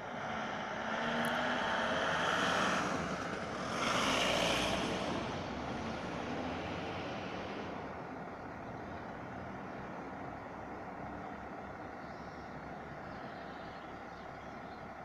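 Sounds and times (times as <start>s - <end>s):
van driving past: 0.0s - 15.0s.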